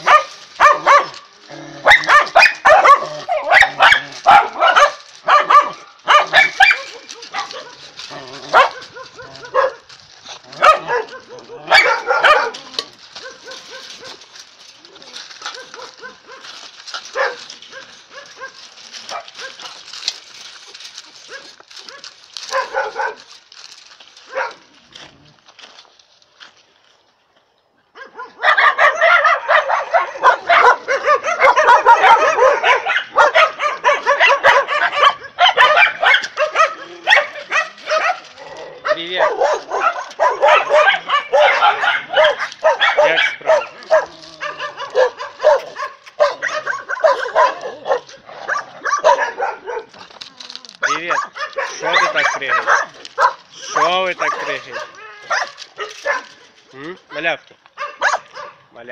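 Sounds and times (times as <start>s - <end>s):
puppies yipping and barking: 0.0s - 23.3s, 28.0s - 58.6s.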